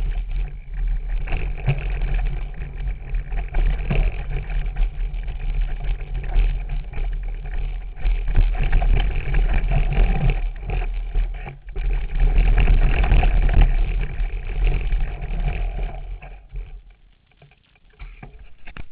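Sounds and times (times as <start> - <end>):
wind rumble on microphone: 0.0 - 16.9
mountain bike rattling on trail: 0.0 - 18.9.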